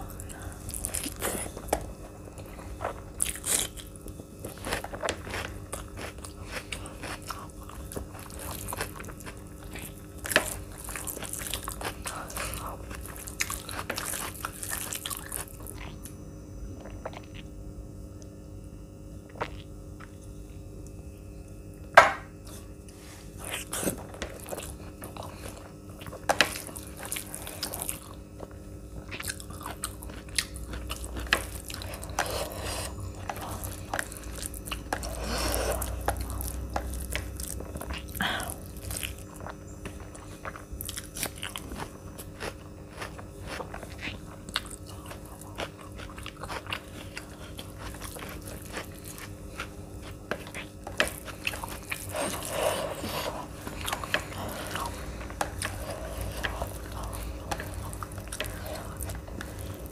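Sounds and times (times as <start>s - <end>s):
chewing with clicks and crunches: 0.0s - 18.4s, 19.2s - 59.9s.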